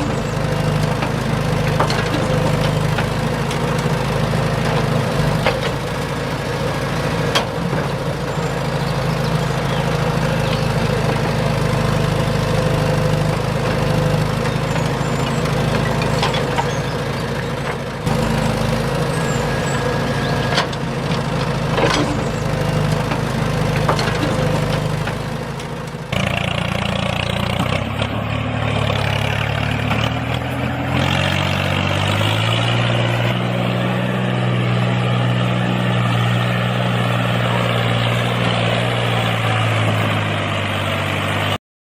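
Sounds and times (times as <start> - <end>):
diesel engine running: 0.0 - 41.6
engine revving up: 0.0 - 41.6.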